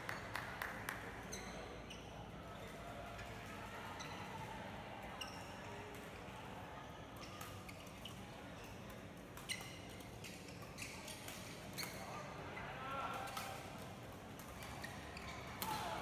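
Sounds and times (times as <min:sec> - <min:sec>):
sports hall ambience: 0:00.0 - 0:16.0.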